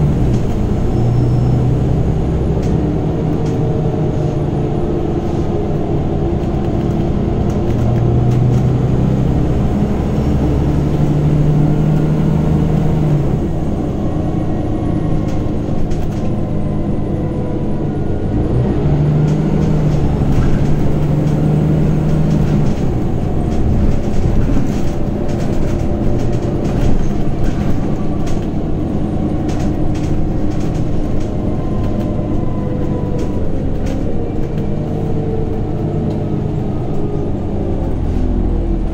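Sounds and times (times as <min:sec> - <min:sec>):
bus engine droning: 0:00.0 - 0:38.9.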